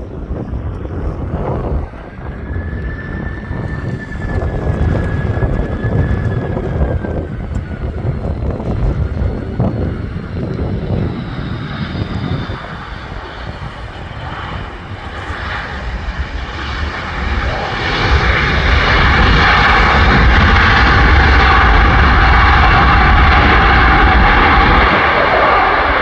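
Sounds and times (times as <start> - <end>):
jet airliner engines: 0.0 - 26.0.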